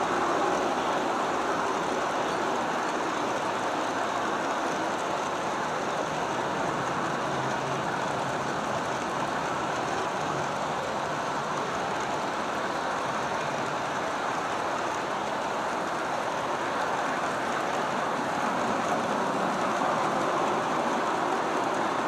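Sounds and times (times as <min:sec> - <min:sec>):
model train cars rolling on track: 0:00.0 - 0:22.0.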